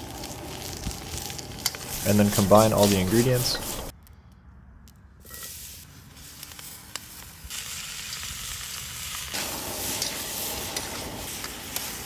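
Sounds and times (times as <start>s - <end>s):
food sizzling in a wok: 0.0s - 3.9s, 5.3s - 12.0s.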